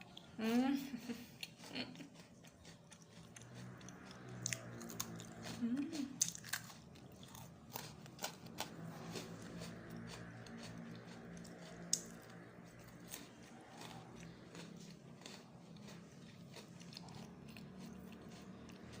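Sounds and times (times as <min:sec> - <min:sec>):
cookies being bitten and chewed: 0:00.0 - 0:19.0.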